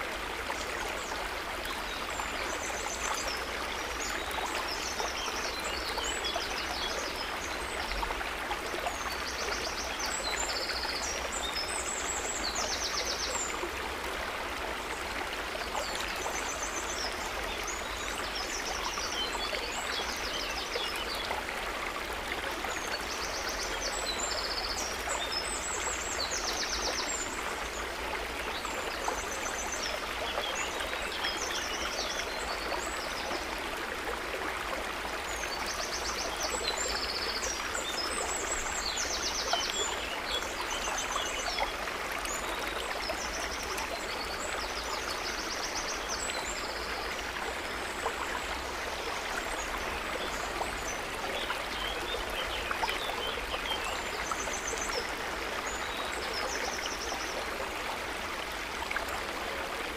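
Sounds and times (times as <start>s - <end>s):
water trickling and flowing: 0.0s - 59.9s.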